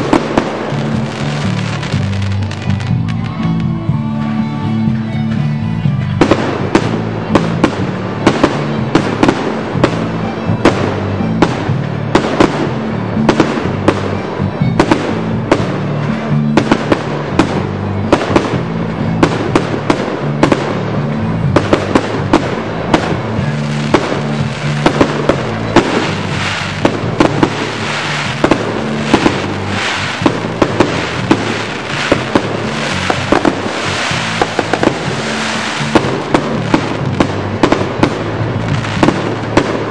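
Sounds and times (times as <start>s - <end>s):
fireworks bangs and crackling: 0.0s - 39.9s
music with steady bass line: 0.0s - 39.9s.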